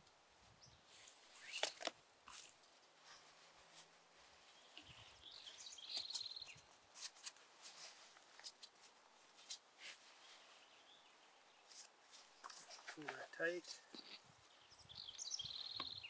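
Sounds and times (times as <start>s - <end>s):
webbing rustling and scratching: 0.8s - 15.0s.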